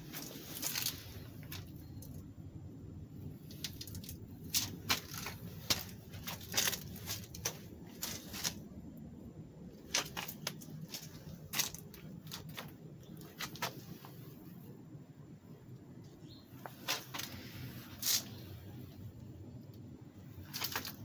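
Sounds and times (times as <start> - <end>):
sharp crackling and rustling: 0.0 - 2.3, 3.1 - 8.8, 9.6 - 14.6, 16.5 - 21.0
low steady rumble: 0.0 - 21.0.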